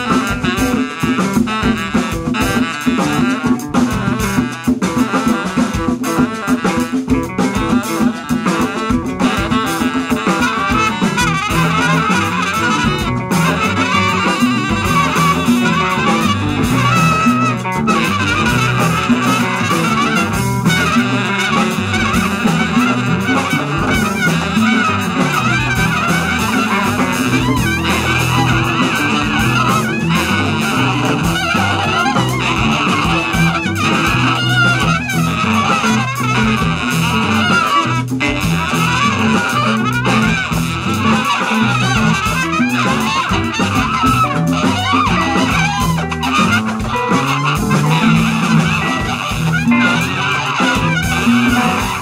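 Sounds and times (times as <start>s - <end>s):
jazz band playing: 0.0s - 52.0s
trumpet: 0.0s - 52.0s.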